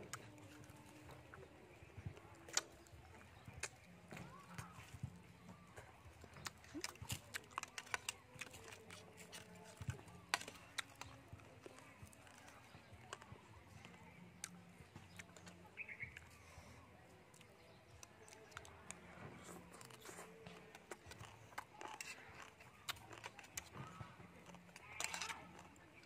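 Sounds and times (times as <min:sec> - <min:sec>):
chewing and mouth noises: 0:00.0 - 0:26.0.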